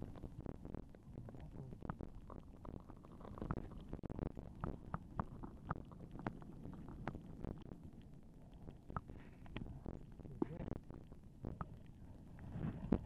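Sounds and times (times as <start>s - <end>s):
low rumble of moving water: 0.0s - 13.0s
underwater clicks and crackles: 0.0s - 13.0s.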